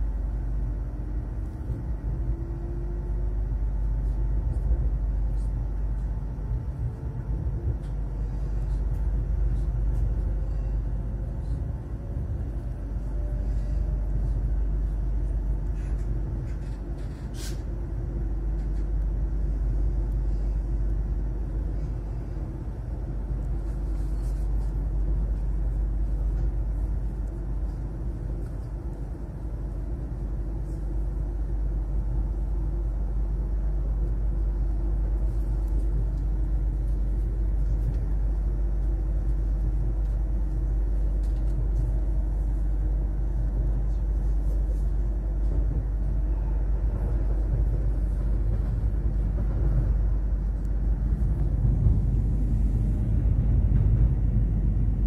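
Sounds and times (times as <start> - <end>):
train rumbling inside carriage: 0.0 - 55.0.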